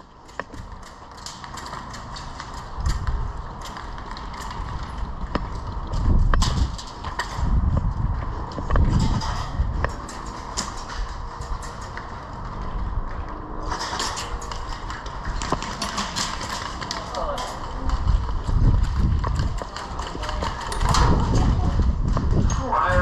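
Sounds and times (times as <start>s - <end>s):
kit rustling and rattling: 0.0s - 22.6s
running footsteps: 0.0s - 23.0s
low rumble: 1.6s - 23.0s.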